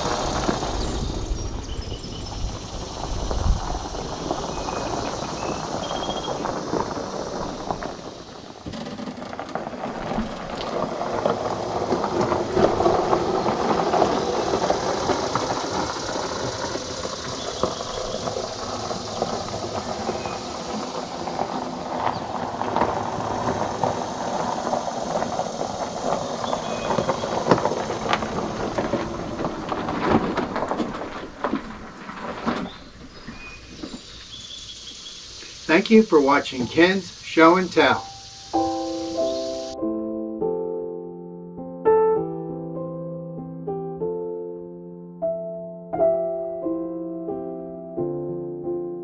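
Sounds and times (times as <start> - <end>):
tyres crunching on gravel: 0.0 - 39.8.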